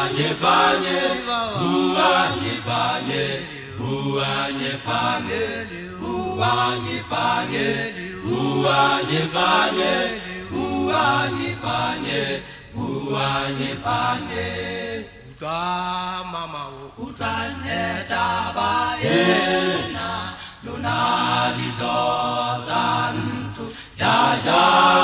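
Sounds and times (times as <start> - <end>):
male vocal group singing hymn: 0.0 - 25.0.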